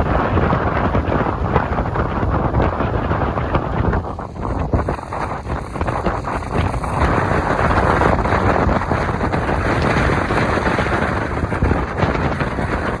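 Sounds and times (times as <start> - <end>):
strong gusty wind: 0.0 - 13.0.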